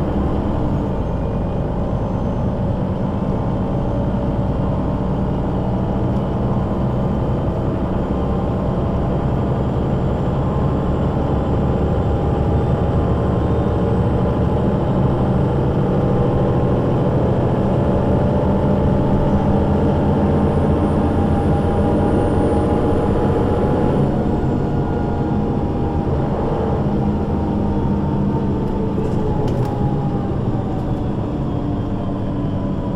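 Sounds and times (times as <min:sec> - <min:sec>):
bus engine and gearbox drone: 0:00.0 - 0:32.9.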